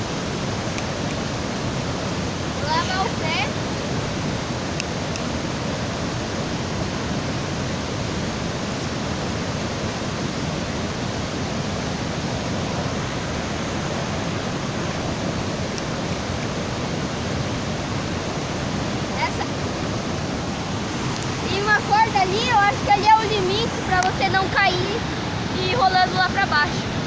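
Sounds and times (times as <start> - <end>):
water rushing down waterfall: 0.0 - 27.0.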